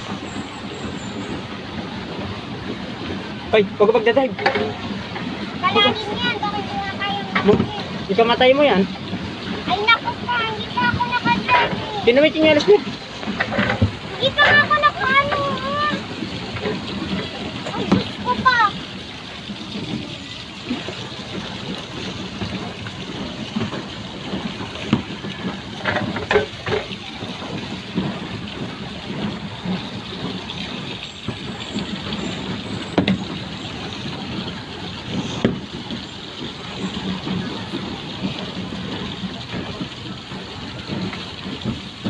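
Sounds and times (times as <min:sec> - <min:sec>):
boat churning water and humming: 0:00.0 - 0:42.0
distant voices: 0:00.0 - 0:42.0.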